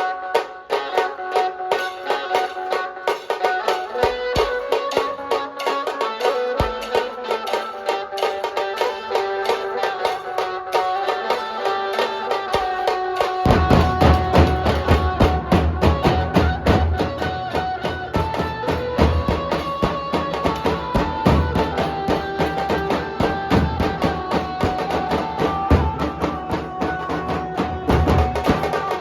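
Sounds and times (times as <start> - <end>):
dhol drumming: 0.0 - 29.0
held melody notes: 0.0 - 29.0.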